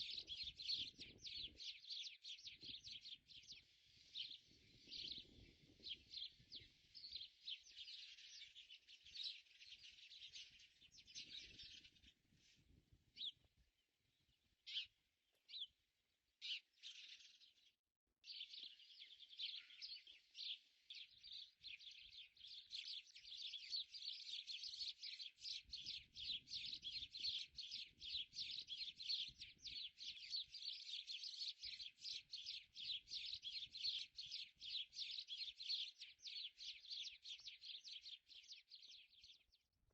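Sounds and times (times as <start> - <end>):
birds chirping: 0.0 - 12.2, 13.2 - 13.5, 18.3 - 39.6.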